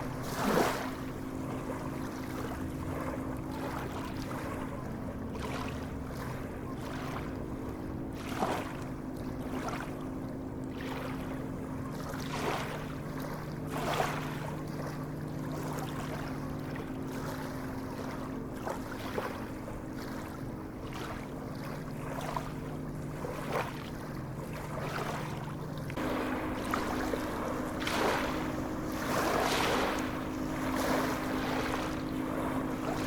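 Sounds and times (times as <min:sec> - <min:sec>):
sea waves washing: 0:00.0 - 0:04.7, 0:10.7 - 0:33.0
low hum: 0:00.0 - 0:33.0.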